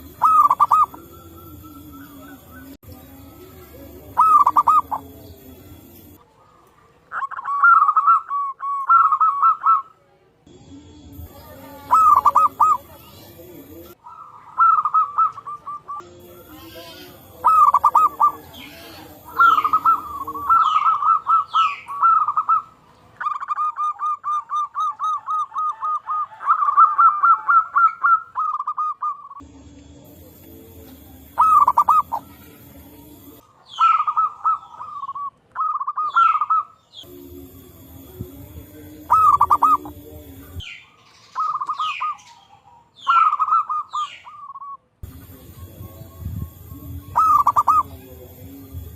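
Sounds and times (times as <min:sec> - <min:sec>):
small birds chirping: 0:00.0 - 0:09.9, 0:10.5 - 0:48.9
doves cooing trills: 0:00.0 - 0:10.0, 0:10.7 - 0:48.9.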